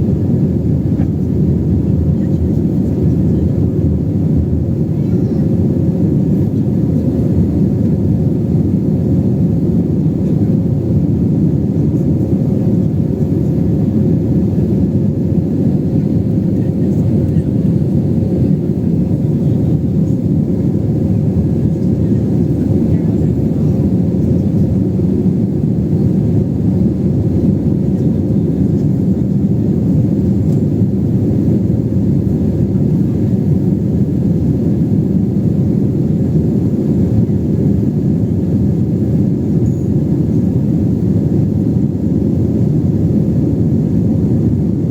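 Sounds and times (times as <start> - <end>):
jet engines roaring in cabin: 0.0 - 44.9.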